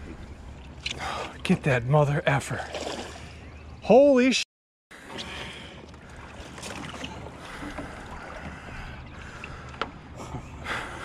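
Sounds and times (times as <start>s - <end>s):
light water noise: 0.0s - 4.4s, 5.0s - 11.0s.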